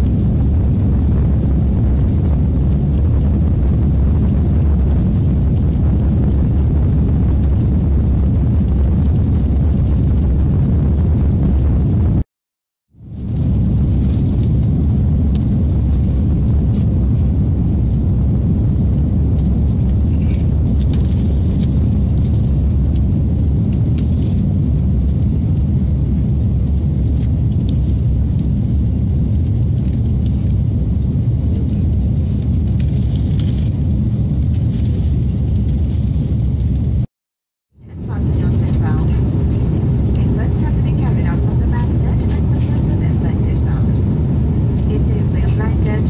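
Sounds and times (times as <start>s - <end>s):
low rumble of aircraft engines: 0.0s - 12.2s, 13.0s - 37.1s, 37.8s - 46.0s.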